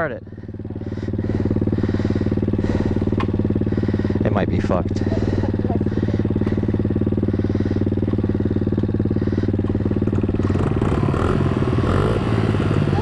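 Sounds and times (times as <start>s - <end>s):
pit bike engine idling: 0.0s - 13.0s.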